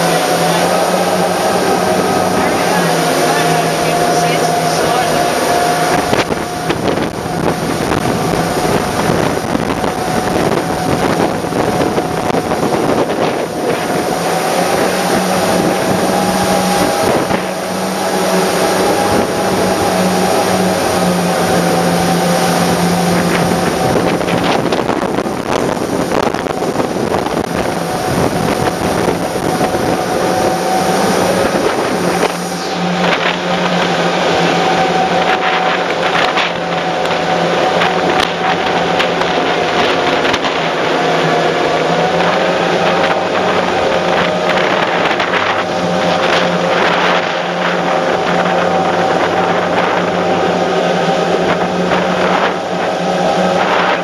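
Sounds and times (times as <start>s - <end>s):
boat engines droning: 0.0s - 54.0s
churning wake water: 0.0s - 54.0s
wind buffeting microphone: 0.0s - 54.0s.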